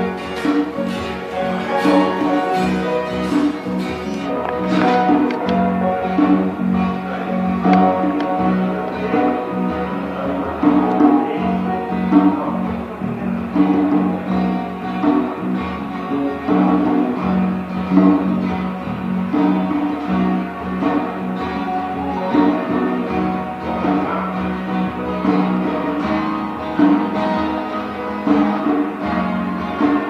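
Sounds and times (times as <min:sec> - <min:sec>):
instrumental music: 0:00.0 - 0:30.0.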